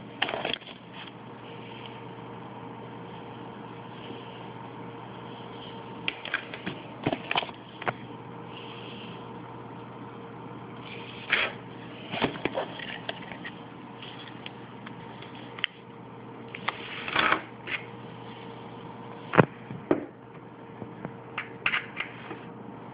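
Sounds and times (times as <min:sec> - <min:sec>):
steady hum: 0:00.0 - 0:22.9.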